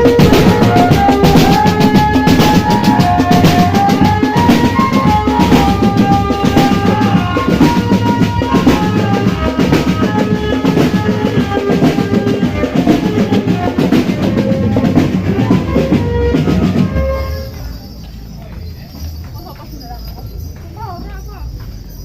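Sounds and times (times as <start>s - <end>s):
sustained melody line: 0.0s - 17.7s
bass and snare drums: 0.0s - 19.5s
marching drum band: 0.0s - 21.9s.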